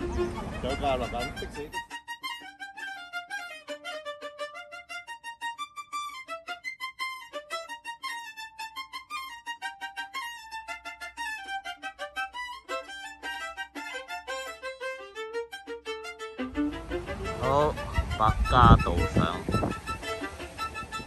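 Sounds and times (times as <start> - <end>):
violin playing quick runs: 0.0 - 21.0.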